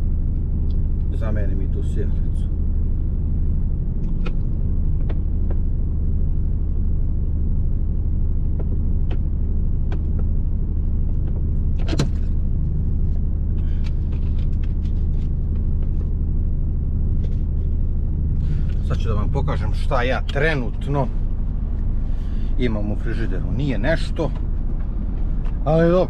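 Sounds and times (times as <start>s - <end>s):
low rumble inside truck cab: 0.0s - 26.0s.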